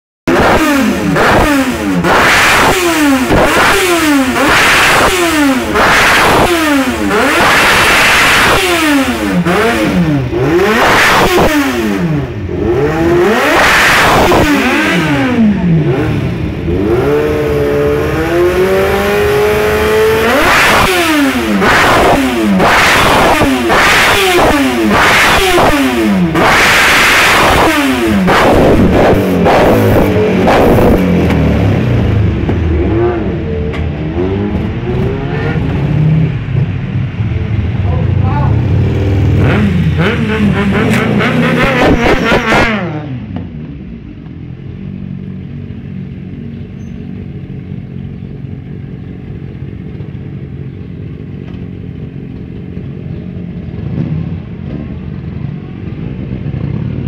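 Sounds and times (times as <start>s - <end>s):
motorcycle engine revving: 0.3s - 57.0s.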